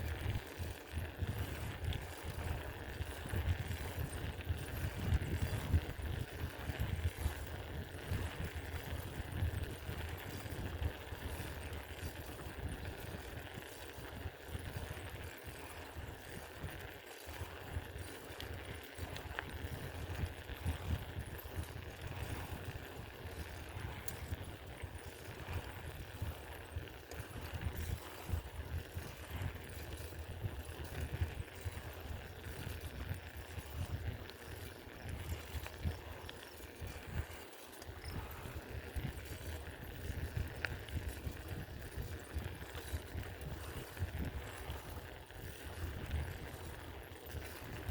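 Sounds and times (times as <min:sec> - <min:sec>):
bicycle tyres rolling: 0:00.0 - 0:47.9
wind rumble on microphone: 0:00.0 - 0:47.9.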